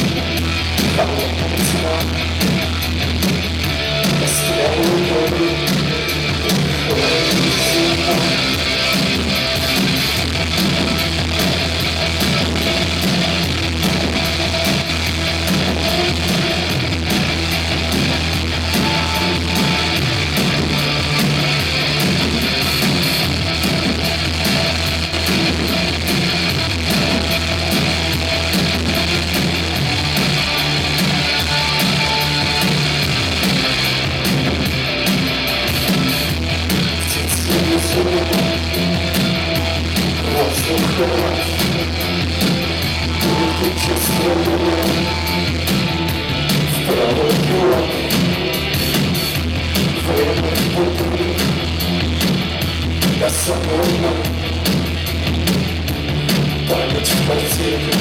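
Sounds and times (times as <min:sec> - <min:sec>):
bass and drums: 0:00.0 - 0:58.0
distorted electric guitar: 0:00.0 - 0:58.0.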